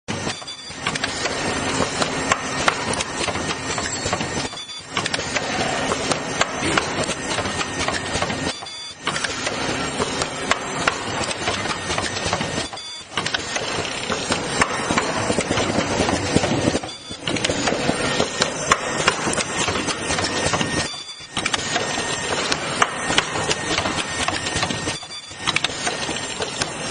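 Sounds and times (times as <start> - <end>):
machine mechanism clattering: 0.1 - 26.9.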